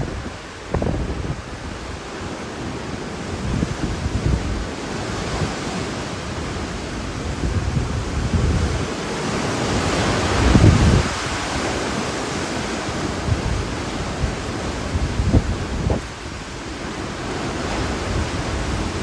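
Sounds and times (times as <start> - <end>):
loud rushing wind gusts: 0.0 - 19.0
wind buffeting microphone: 0.0 - 19.0.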